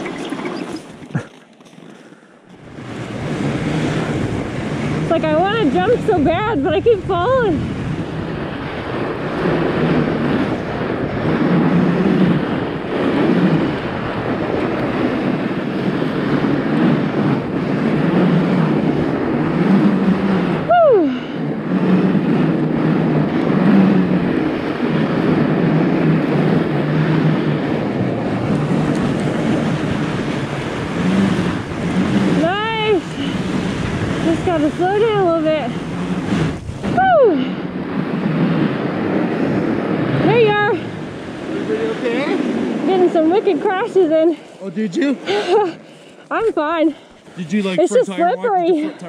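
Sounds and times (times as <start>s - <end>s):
low tyre hum: 0.0s - 49.0s
wind rushing over microphone: 2.5s - 49.0s.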